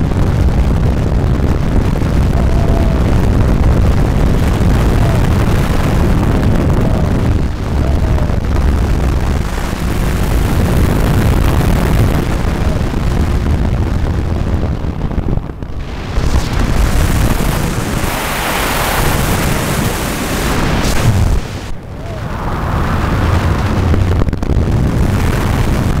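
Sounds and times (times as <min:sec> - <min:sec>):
engine droning: 0:00.0 - 0:25.5
wind buffeting microphone: 0:00.0 - 0:26.0.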